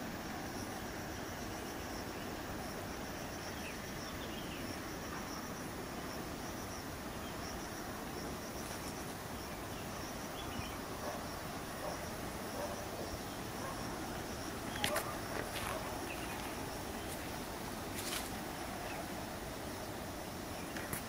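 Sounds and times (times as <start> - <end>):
background hiss: 0.0 - 21.0
insects chirping: 0.0 - 21.0.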